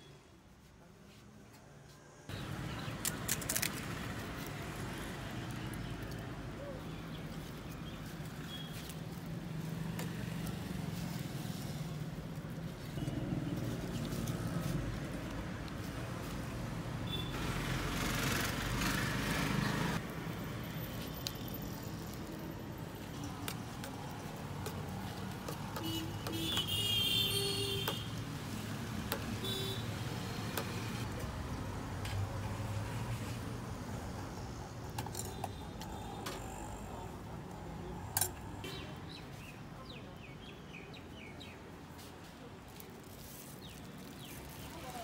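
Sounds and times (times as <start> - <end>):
street traffic passing: 0.2 - 45.0.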